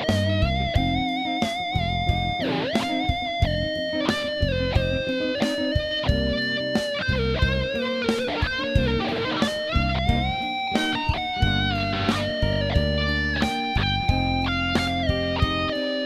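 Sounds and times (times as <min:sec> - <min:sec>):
bass: 0:00.0 - 0:05.2, 0:05.9 - 0:15.8
drum beat: 0:00.0 - 0:16.0
electric guitar lead: 0:00.0 - 0:16.0.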